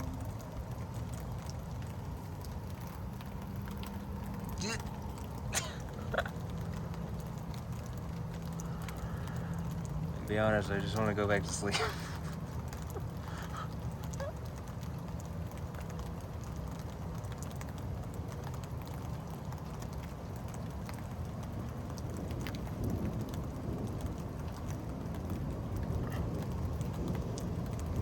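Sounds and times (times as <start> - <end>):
drips ticking close by: 0.0 - 28.0
steady rain falling: 0.0 - 28.0.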